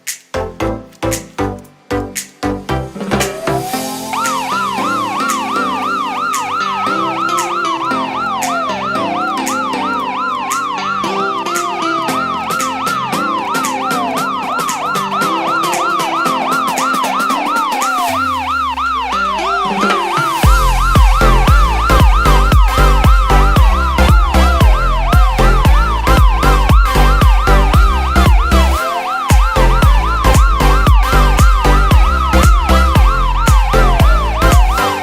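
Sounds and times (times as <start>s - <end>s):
electronic music: 0.0s - 35.0s
heavy bass beat: 0.0s - 35.0s
siren wailing and warbling: 3.1s - 35.0s.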